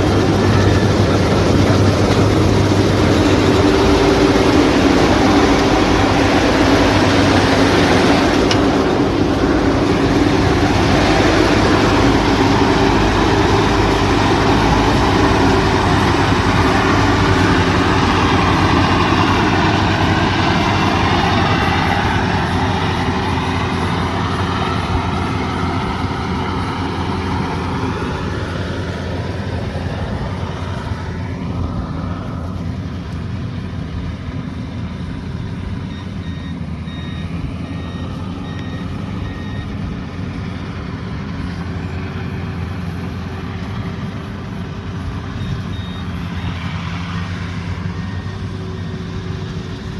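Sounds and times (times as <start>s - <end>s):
heavy machine engine running: 0.0s - 49.9s.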